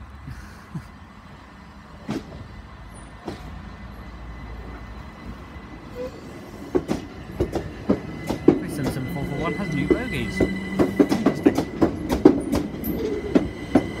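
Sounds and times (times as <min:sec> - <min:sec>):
electric train rumbling: 0:00.0 - 0:14.0.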